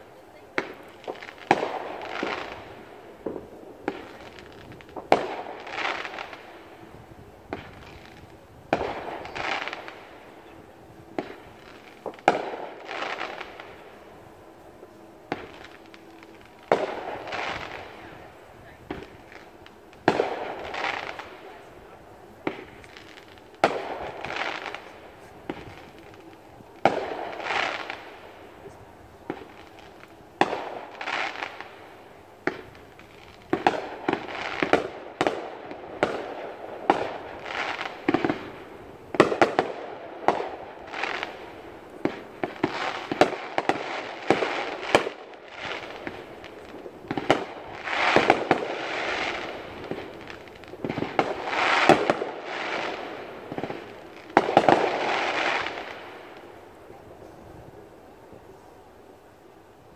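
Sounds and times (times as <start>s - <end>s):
fireworks bursting in bangs: 0.0s - 57.0s.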